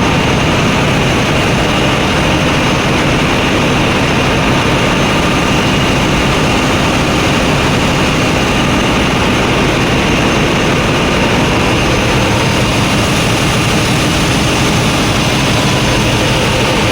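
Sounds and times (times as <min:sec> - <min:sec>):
loud machinery drone: 0:00.0 - 0:16.9.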